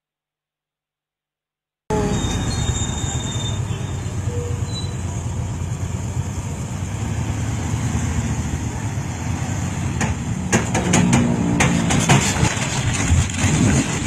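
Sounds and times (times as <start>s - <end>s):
truck engine rumbling: 1.9s - 14.0s.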